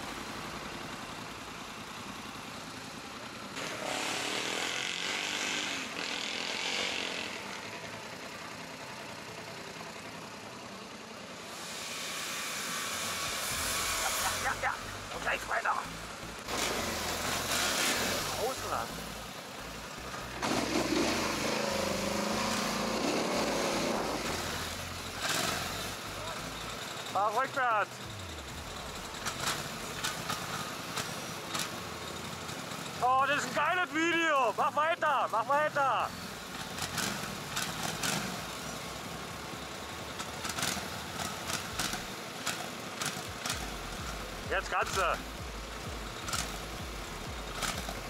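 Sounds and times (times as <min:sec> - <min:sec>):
atv engine revving: 0:00.0 - 0:10.2, 0:11.5 - 0:48.0.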